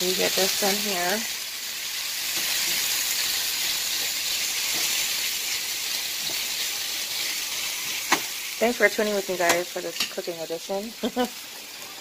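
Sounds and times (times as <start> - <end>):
steak sizzling in a frying pan: 0.0 - 12.0.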